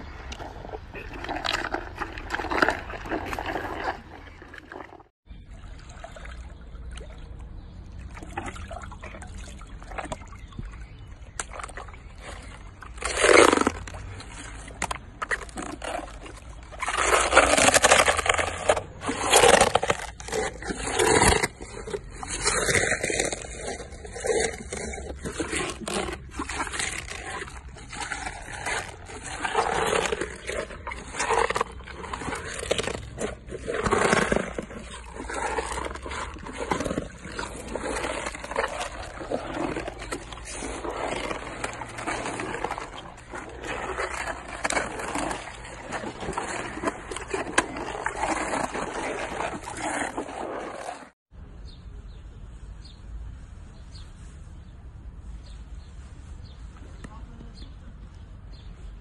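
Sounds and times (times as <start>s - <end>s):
hippopotamus chewing: 0.0s - 5.5s, 6.1s - 51.2s.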